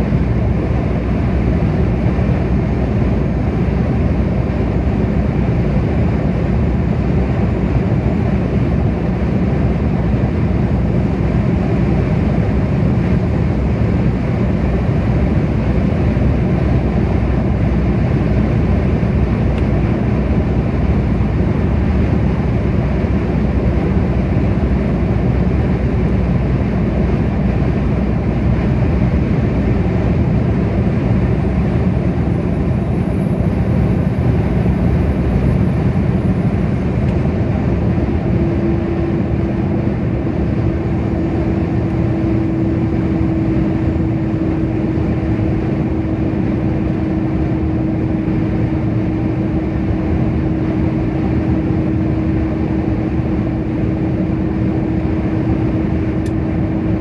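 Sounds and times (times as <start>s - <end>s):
car engine hum: 0.0s - 57.0s.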